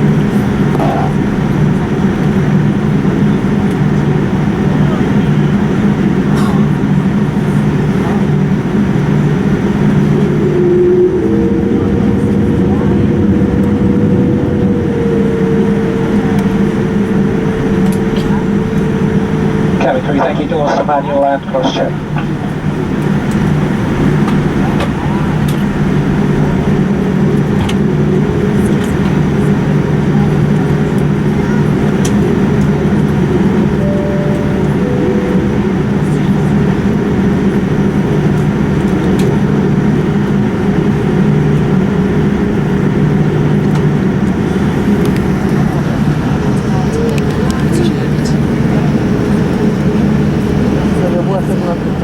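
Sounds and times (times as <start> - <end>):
vehicle running hum: 0.0 - 52.0.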